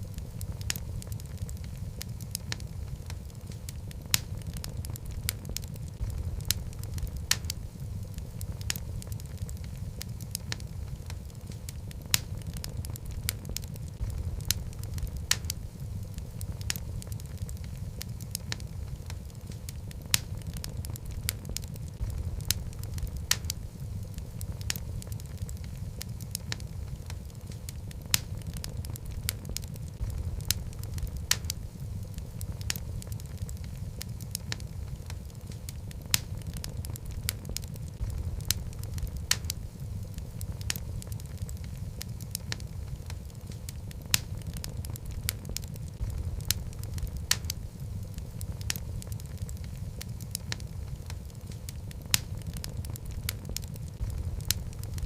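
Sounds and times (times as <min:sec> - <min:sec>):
wood fire rumbling and crackling: 0:00.0 - 0:55.0.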